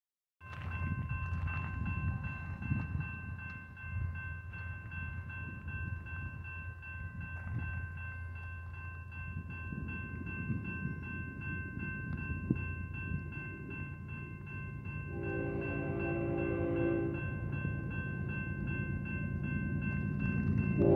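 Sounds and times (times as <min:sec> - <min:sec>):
crossing warning bell ringing: 0:00.4 - 0:20.9
freight train rumble: 0:00.4 - 0:20.9.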